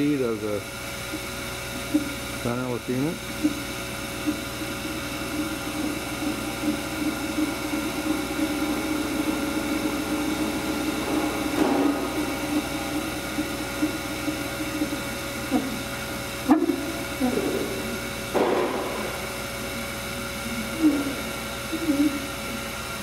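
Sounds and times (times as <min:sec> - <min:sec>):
grinder machine hum and whines: 0:00.0 - 0:23.0.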